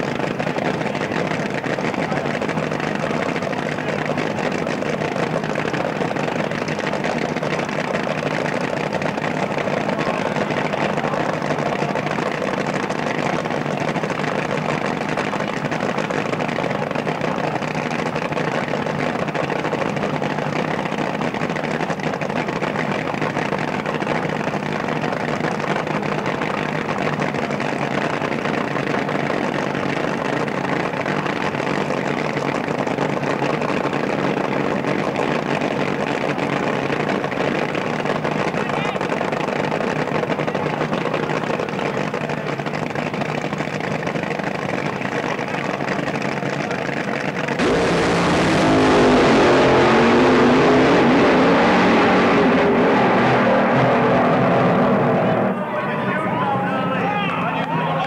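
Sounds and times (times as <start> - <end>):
drag racing engine idling: 0.0 - 58.0.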